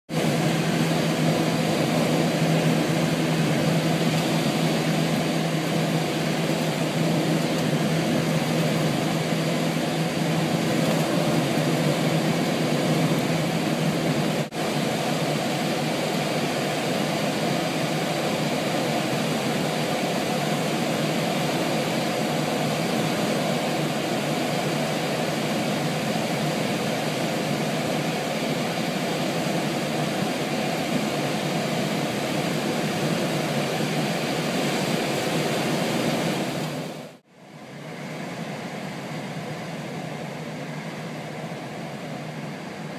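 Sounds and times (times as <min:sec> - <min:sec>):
airflow over canopy: 0:00.1 - 0:42.9
propeller engine drone: 0:00.1 - 0:42.9.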